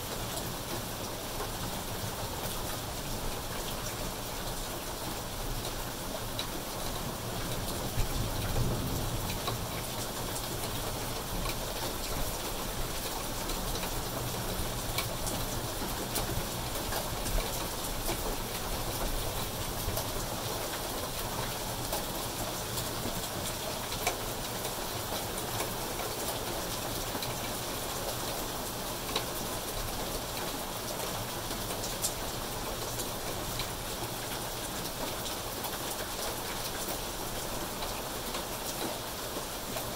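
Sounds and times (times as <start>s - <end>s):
rain on leaves and concrete: 0.0s - 39.9s.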